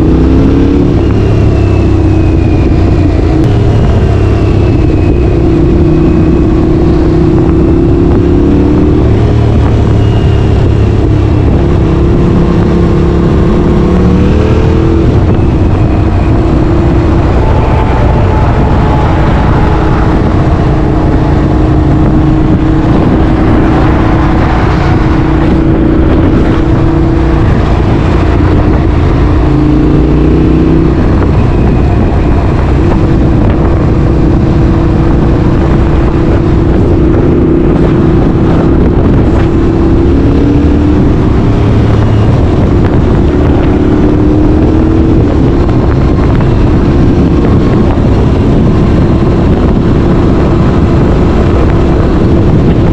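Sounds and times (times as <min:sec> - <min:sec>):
motorcycle engine running loudly: 0:00.0 - 0:52.9.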